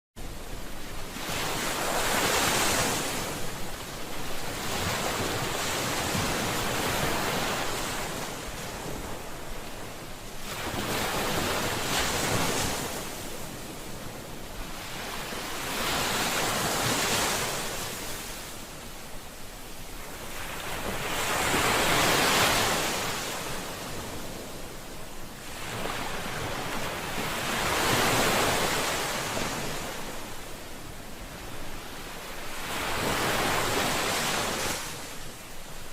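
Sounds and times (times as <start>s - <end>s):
ocean waves breaking on shore: 0.2s - 35.9s.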